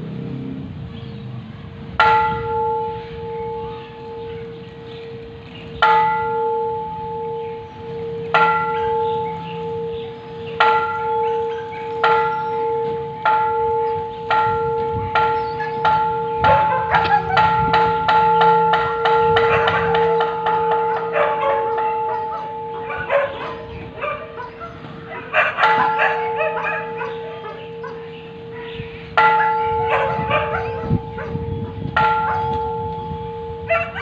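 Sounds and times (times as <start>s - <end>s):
temple bell ringing: 2.0s - 34.0s.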